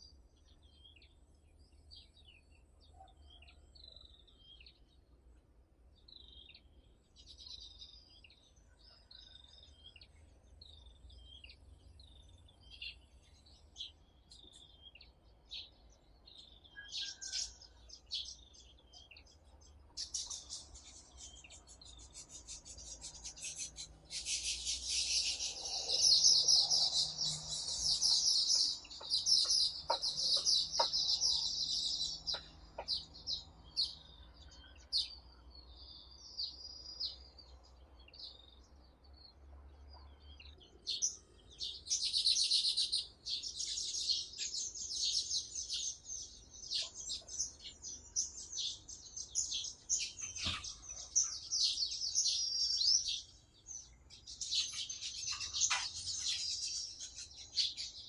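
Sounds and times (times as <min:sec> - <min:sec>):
birds twittering: 0:05.9 - 0:58.0.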